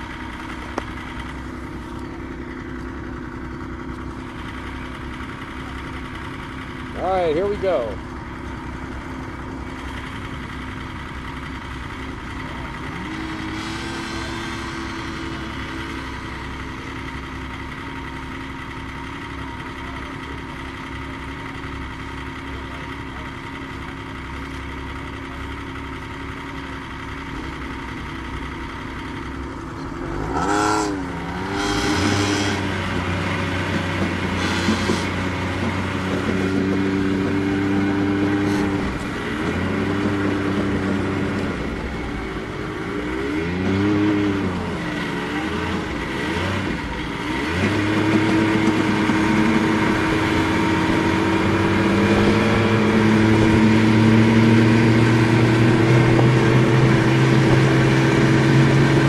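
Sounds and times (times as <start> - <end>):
snowmobile engine idling and revving: 0.0 - 59.0.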